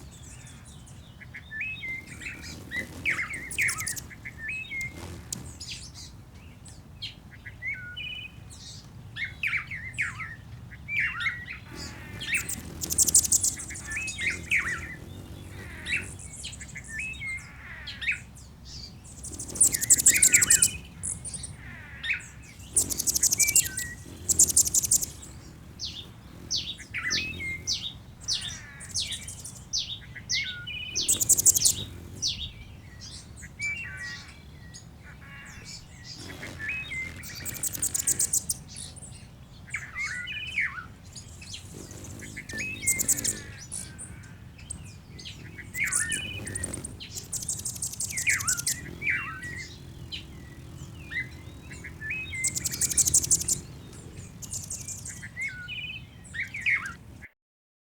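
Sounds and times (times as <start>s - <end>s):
high buzzy bird trill: 0.0s - 6.1s, 11.1s - 57.2s
songbirds chirping and whistling: 0.0s - 57.3s.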